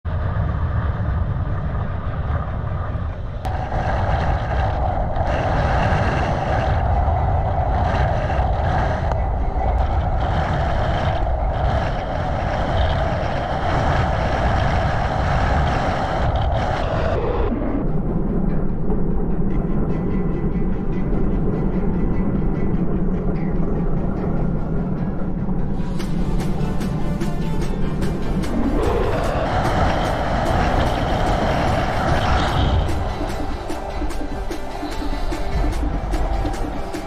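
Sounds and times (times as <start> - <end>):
wind buffeting microphone: 0.0 - 37.0
steady mid-pitched whine: 0.1 - 37.0.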